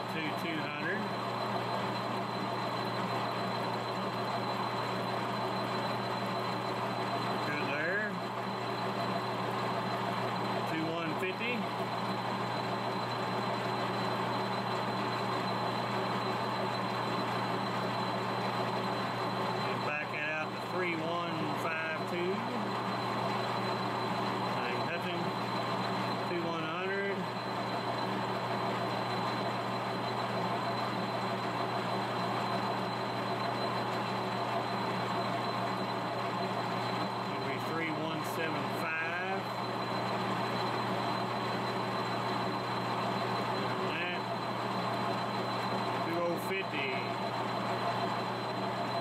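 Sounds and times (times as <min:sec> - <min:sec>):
metal lathe running: 0:00.0 - 0:49.0.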